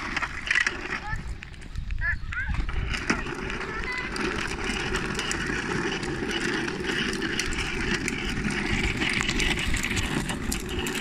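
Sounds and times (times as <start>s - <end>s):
plastic wheels rolling on bricks: 0.0s - 11.0s.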